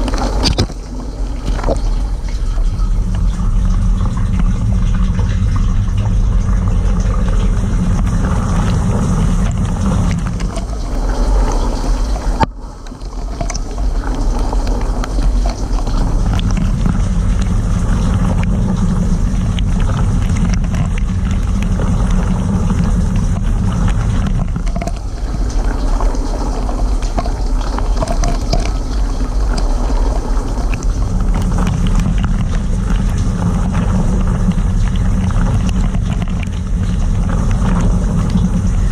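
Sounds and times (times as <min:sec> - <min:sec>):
circulation pump hum: 0:00.0 - 0:38.9
water spraying and splashing: 0:00.0 - 0:38.9.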